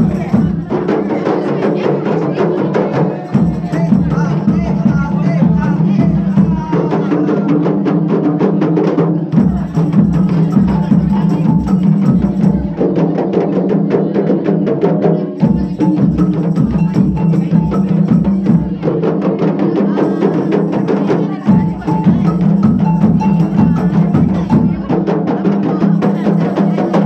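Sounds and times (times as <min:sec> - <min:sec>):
rapid dense drumming: 0:00.0 - 0:27.0.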